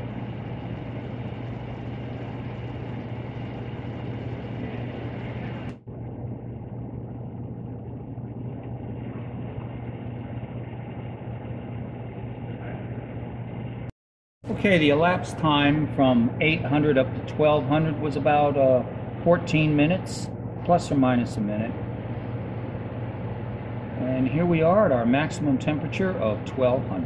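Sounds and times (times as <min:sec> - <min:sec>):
low electrical hum: 0:00.0 - 0:13.9, 0:14.5 - 0:27.0.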